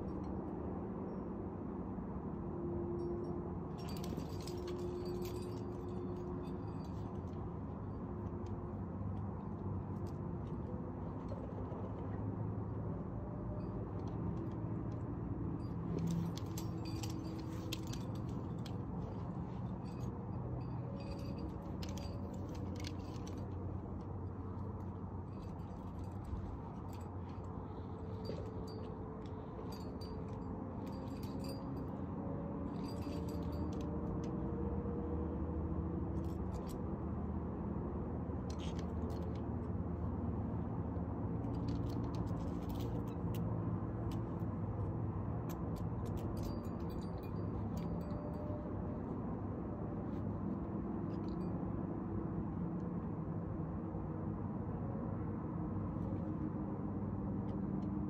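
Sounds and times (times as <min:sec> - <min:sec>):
climbing gear clinking: 0:03.0 - 0:35.4, 0:36.0 - 0:51.9.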